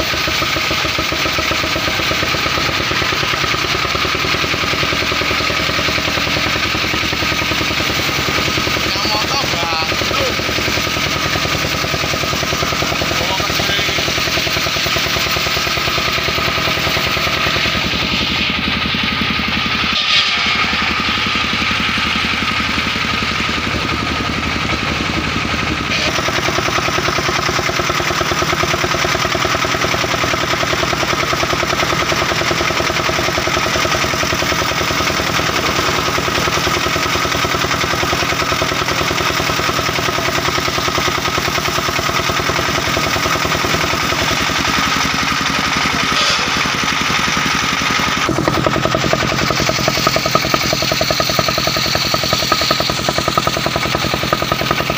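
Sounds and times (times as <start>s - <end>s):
sawmill blade sawing through log: 0.0s - 54.9s
sawmill engine running: 0.0s - 54.9s.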